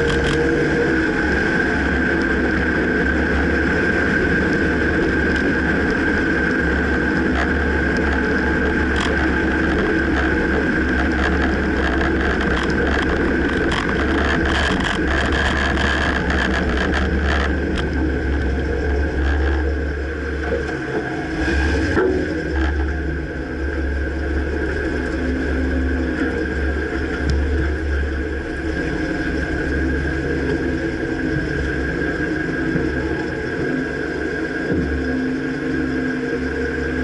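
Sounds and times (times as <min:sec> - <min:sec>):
truck engine low rumble: 0:00.0 - 0:37.0.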